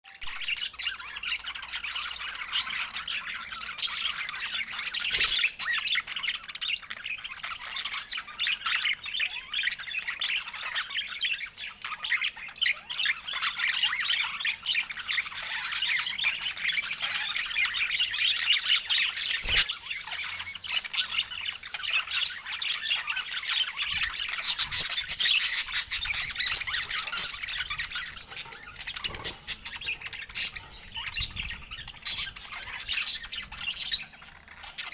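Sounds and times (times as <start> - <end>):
budgerigars chattering and chirping: 0.3 - 34.9.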